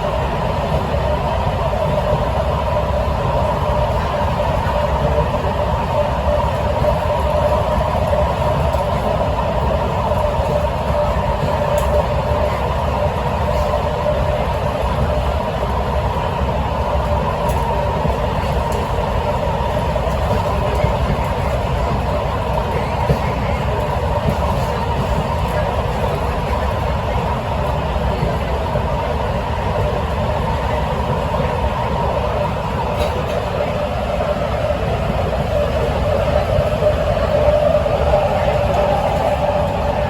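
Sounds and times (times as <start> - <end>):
train interior rumble: 0.0 - 40.0.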